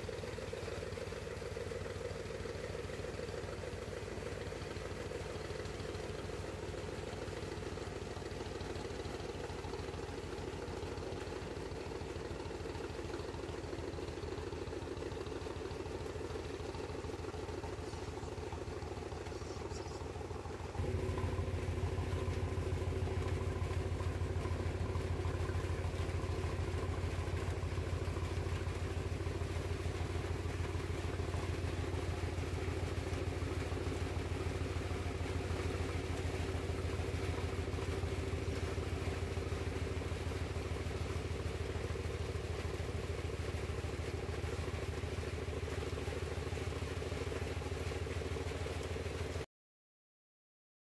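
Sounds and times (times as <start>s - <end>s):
boat diesel engine throbbing: 0.0s - 49.4s.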